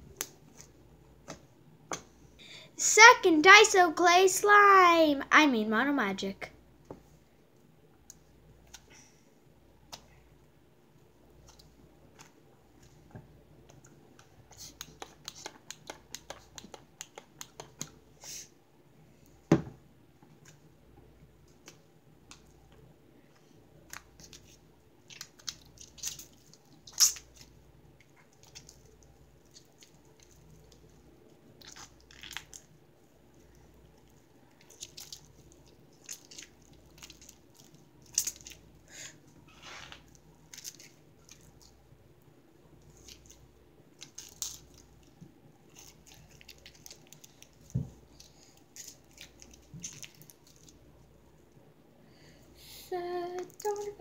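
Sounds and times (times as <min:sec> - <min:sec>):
clay and slime being kneaded: 0:00.0 - 0:51.8.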